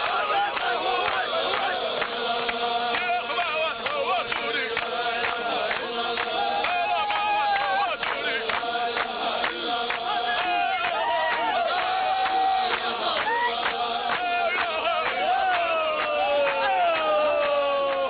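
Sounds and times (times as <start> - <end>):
lead voice chanting: 0.0 - 18.0
men chanting together: 0.0 - 18.0
rhythmic clapping and stamping: 0.0 - 18.0.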